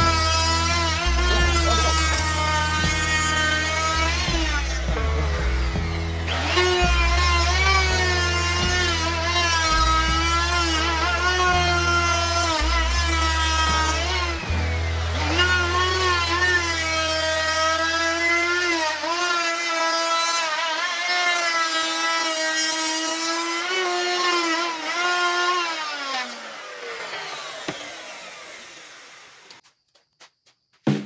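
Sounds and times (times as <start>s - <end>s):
power tool motor whine: 0.0s - 29.6s
power tool spinning down: 0.0s - 29.6s.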